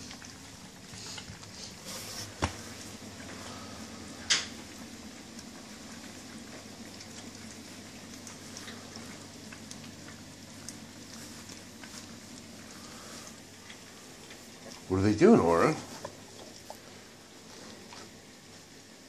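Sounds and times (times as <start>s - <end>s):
puppies lapping and chewing: 0.0s - 19.0s.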